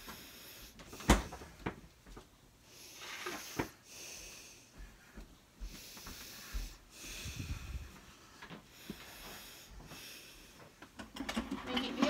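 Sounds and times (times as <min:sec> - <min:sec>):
soft breathing: 0:00.0 - 0:01.8, 0:02.6 - 0:11.0.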